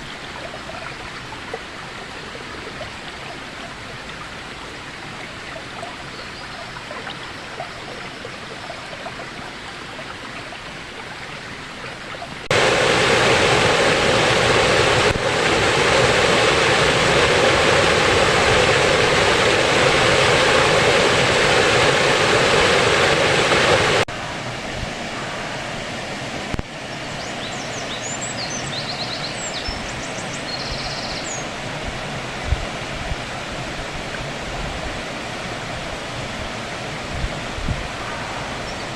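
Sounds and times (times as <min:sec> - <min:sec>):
water rushing over waterfall: 0:00.0 - 0:38.9.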